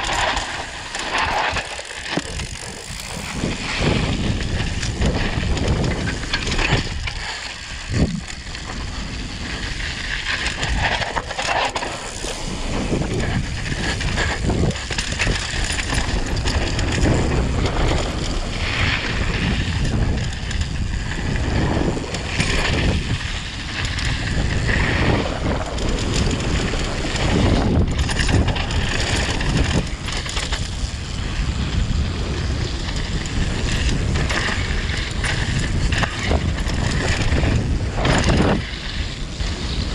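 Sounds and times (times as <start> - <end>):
bike rattling: 0.0 - 39.9
wind buffeting microphone: 0.0 - 39.9.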